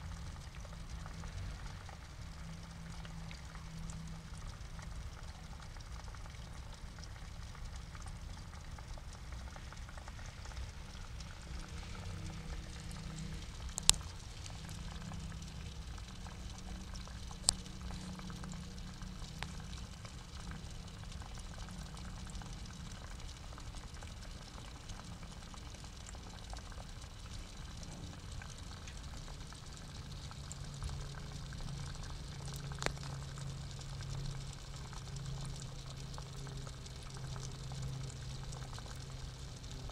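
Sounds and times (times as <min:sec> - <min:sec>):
low steady hum: 0:00.0 - 0:39.9
pond water bubbling and trickling: 0:00.0 - 0:39.9.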